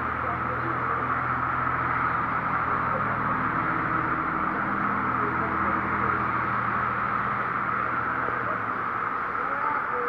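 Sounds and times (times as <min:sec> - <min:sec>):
floodwater running: 0:00.0 - 0:10.0
heavy rain: 0:00.0 - 0:10.0.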